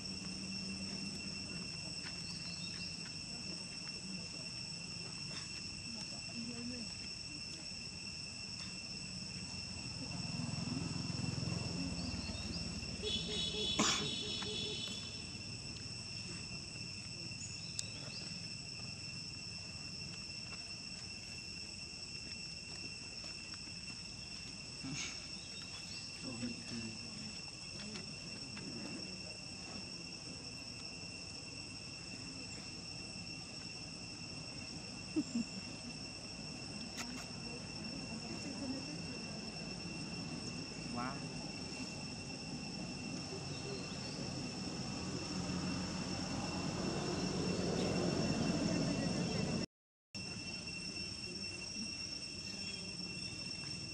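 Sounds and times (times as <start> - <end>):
high-pitched insect drone: 0.0 - 53.9.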